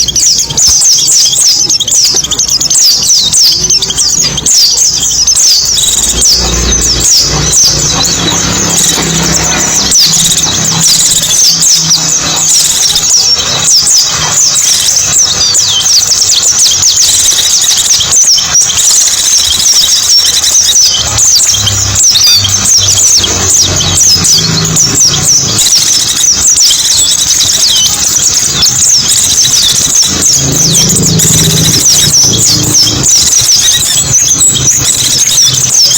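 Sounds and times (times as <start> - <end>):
bird chirping and twittering: 0.0 - 35.9.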